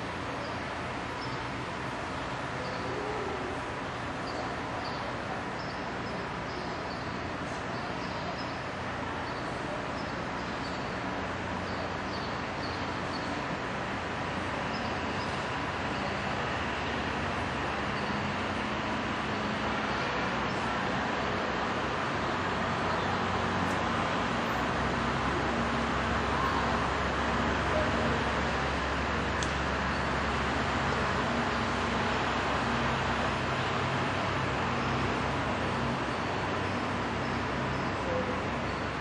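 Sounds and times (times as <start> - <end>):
rushing outdoor background noise: 0.0 - 39.0.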